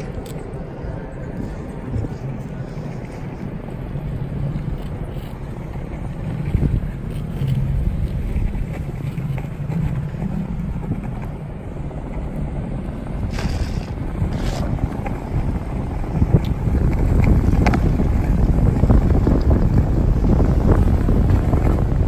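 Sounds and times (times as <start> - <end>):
skateboard wheels rolling on concrete: 0.0 - 22.0
wind on microphone: 0.0 - 22.0.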